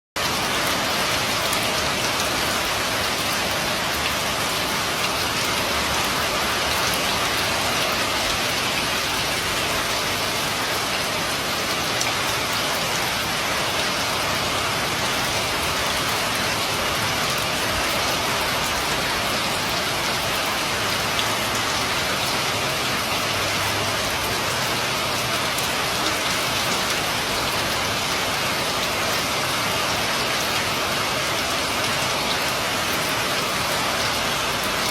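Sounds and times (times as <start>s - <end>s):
rain on roof and pavement: 0.2s - 34.9s.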